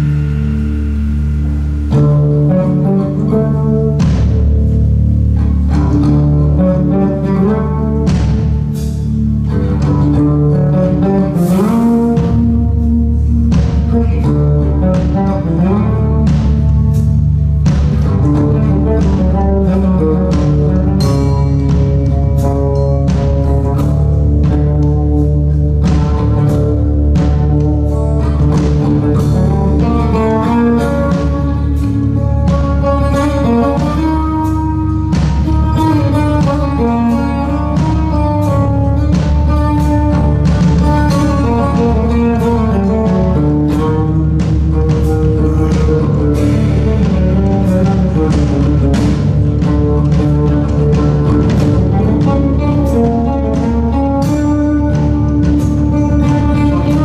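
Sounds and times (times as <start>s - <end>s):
drum and cymbal hits: 0.0s - 57.0s
electric bass guitar: 0.0s - 57.0s
electric guitar: 0.0s - 57.0s.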